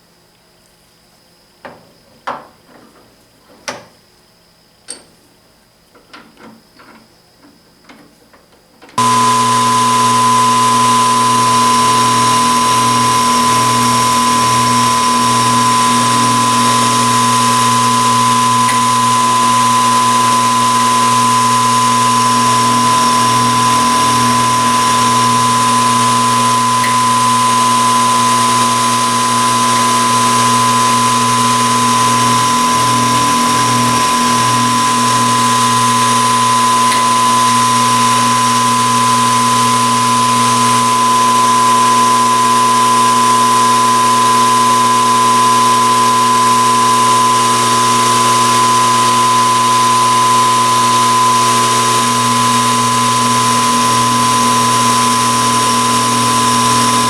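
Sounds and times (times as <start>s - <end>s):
power tool motor running: 9.0s - 57.0s.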